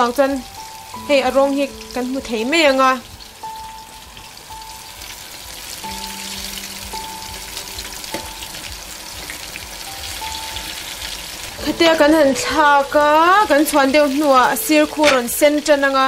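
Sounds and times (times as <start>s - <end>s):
fritters deep-frying in oil: 0.0s - 16.0s
soft background music: 0.0s - 16.0s.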